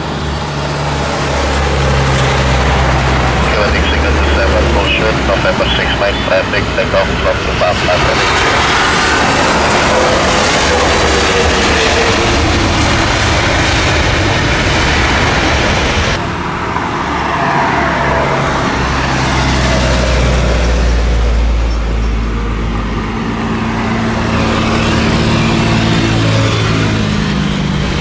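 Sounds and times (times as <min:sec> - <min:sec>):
low steady engine drone: 0:00.0 - 0:28.0
vehicle engine and traffic noise: 0:00.0 - 0:28.0.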